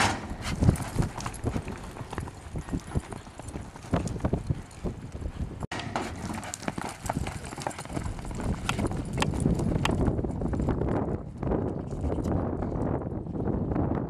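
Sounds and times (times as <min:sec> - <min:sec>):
horse hoofbeats on ground: 0:00.0 - 0:13.0.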